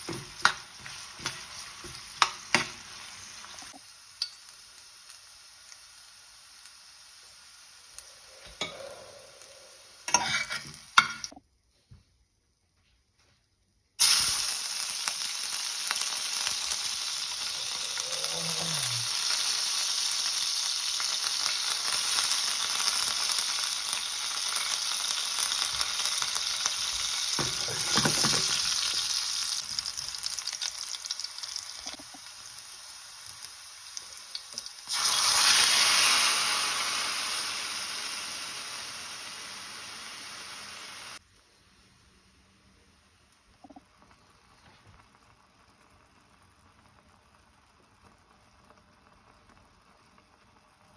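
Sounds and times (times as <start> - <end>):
garlic sizzling in hot oil: 0.0 - 11.3, 14.0 - 41.2, 43.1 - 50.9.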